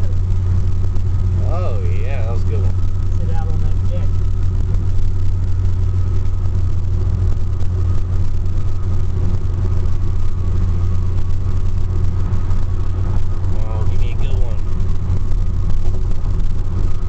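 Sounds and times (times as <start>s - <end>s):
car engine and tyre noise: 0.0s - 17.0s
faint steady whine: 0.0s - 17.0s.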